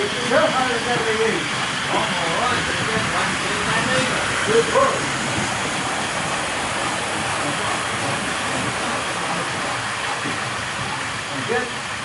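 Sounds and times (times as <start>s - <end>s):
locomotive motors whirring: 0.0s - 12.0s.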